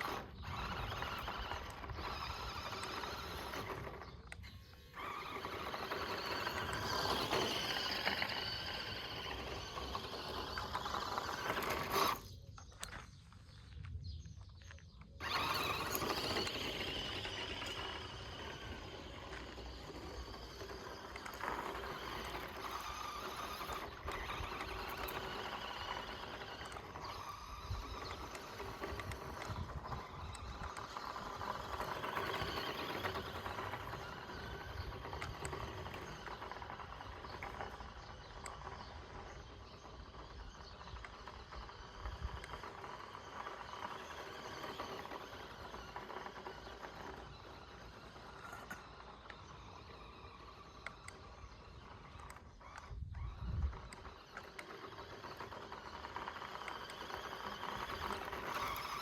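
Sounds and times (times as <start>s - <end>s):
electric motor whining: 0.0s - 12.9s, 15.1s - 59.0s
tyres scrabbling over dirt: 0.0s - 59.0s.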